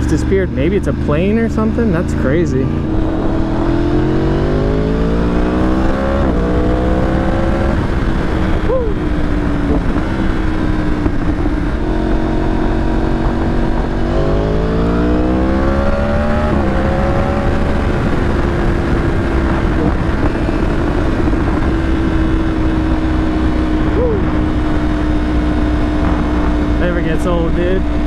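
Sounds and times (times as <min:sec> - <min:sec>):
motorcycle engine revving through gears: 0:00.0 - 0:28.0
wind noise on microphone: 0:02.8 - 0:28.0.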